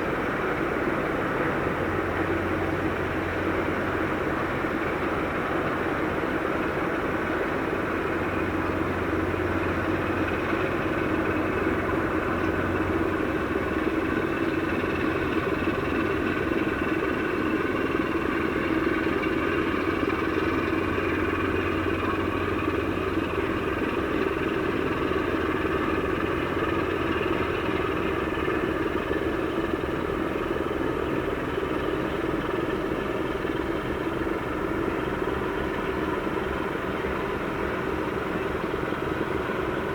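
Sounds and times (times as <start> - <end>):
mechanical engine drone: 0.0 - 39.9.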